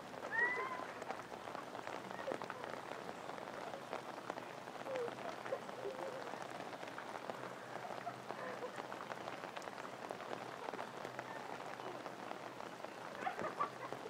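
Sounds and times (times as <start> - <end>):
water splashing on trampoline mat: 0.0 - 14.0.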